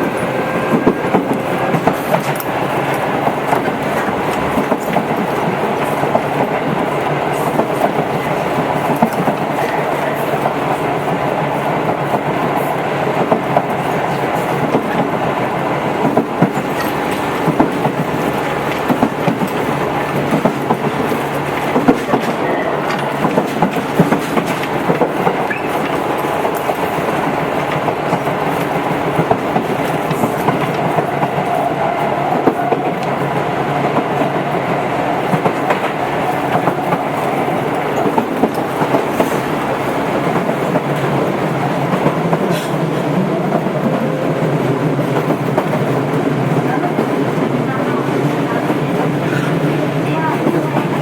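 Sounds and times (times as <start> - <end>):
train wheels rumbling on rails: 0.0 - 51.0
wheels clicking over rail joints: 0.0 - 51.0.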